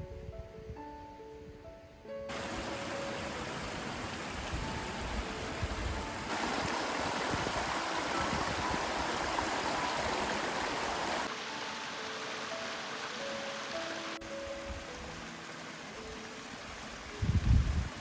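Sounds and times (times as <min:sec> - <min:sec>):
soft background music: 0:00.0 - 0:18.0
stream water rushing: 0:02.3 - 0:18.0.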